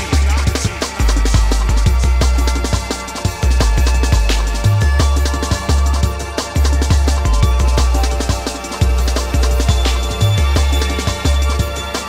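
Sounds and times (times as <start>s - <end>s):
drum and bass music: 0.0s - 12.0s.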